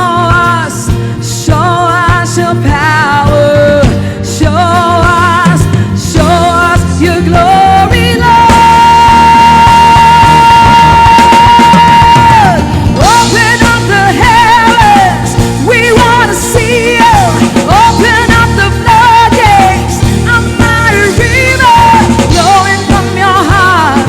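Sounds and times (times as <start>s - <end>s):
live worship band music: 0.0s - 24.0s
person singing wordlessly: 0.0s - 24.0s.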